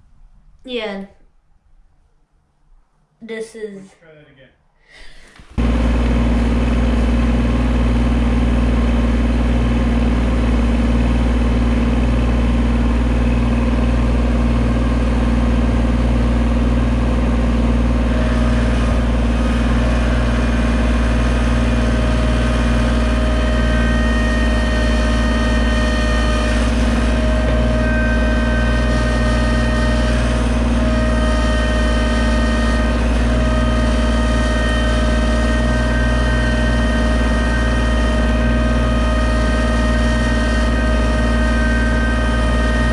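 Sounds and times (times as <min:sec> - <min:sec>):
diesel engines running: 0:05.4 - 0:42.9
high whining tones: 0:05.6 - 0:42.9.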